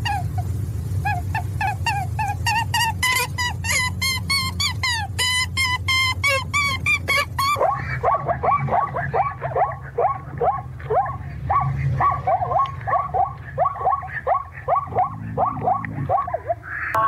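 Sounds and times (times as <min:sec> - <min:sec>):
dog-like yelping calls: 0:00.0 - 0:17.0
high animal chirps: 0:01.0 - 0:17.0.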